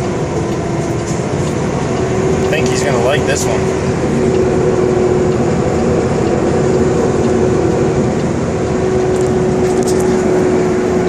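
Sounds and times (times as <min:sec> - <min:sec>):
constant humming tone: 0:00.0 - 0:11.0
truck engine and road noise: 0:00.0 - 0:11.0.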